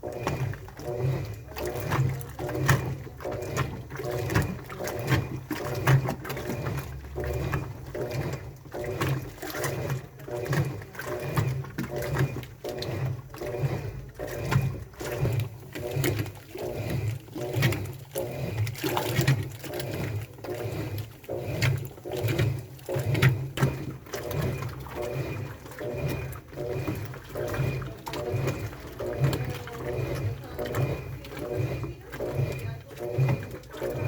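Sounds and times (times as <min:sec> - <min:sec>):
low motor hum: 0:00.0 - 0:34.0
washing machine churning water: 0:00.0 - 0:34.0.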